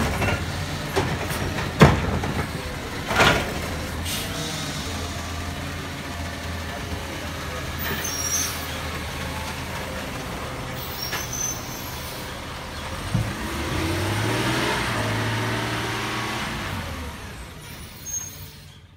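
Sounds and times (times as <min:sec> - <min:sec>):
garbage truck engine: 0:00.0 - 0:18.9.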